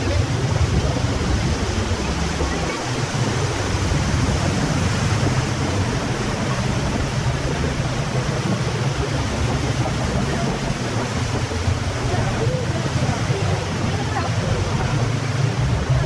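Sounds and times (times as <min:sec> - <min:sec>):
lift hill rumble: 0:00.0 - 0:16.0.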